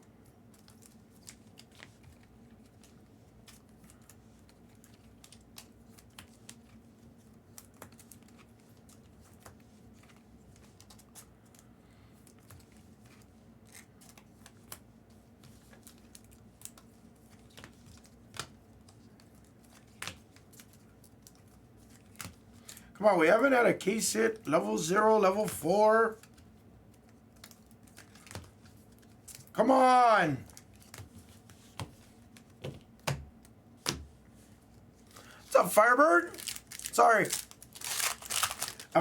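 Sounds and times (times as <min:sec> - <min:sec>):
card packs crinkling and clicking: 0:00.5 - 0:29.5, 0:30.4 - 0:33.6, 0:35.0 - 0:39.0.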